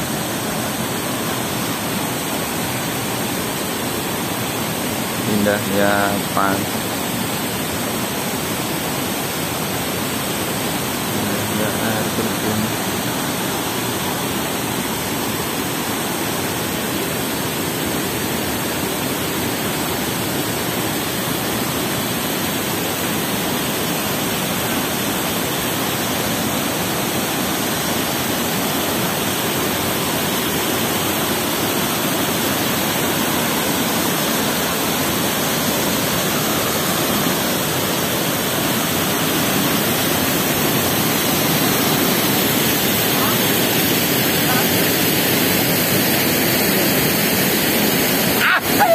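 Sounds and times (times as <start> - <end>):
waterfall crashing: 0.0 - 48.9.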